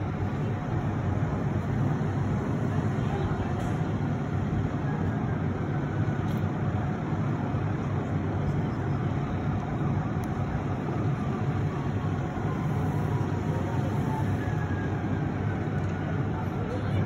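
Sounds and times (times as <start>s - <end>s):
fire truck diesel engine rumbling: 0.0s - 17.0s
street traffic: 0.0s - 17.0s.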